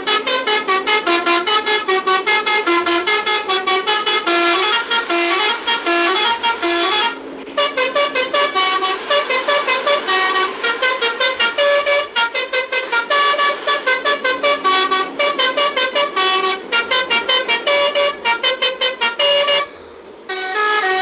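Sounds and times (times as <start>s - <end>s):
bus horn playing fast melody: 0.0s - 21.0s.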